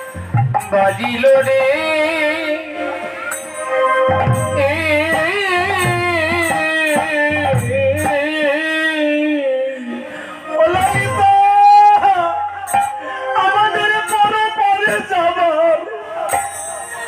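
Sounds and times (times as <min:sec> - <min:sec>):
man singing devotional song: 0:00.3 - 0:17.0.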